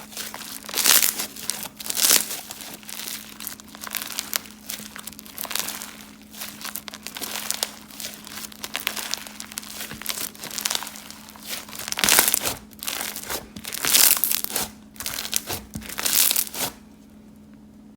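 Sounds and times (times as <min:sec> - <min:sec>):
crunchy slime crackling and popping: 0:00.0 - 0:16.8
steady low hum: 0:00.0 - 0:17.9.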